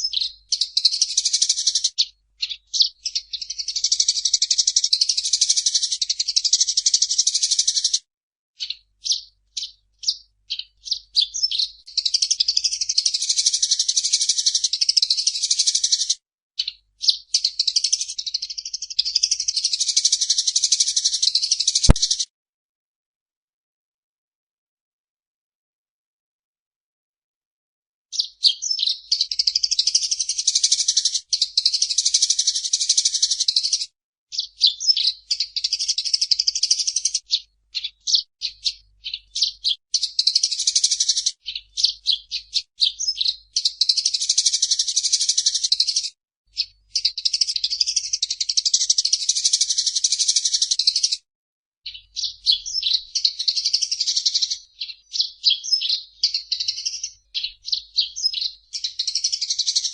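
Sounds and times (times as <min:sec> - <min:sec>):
sparrow chirping: 0:00.0 - 0:08.0, 0:08.6 - 0:22.2, 0:28.1 - 0:51.2, 0:51.9 - 0:59.9.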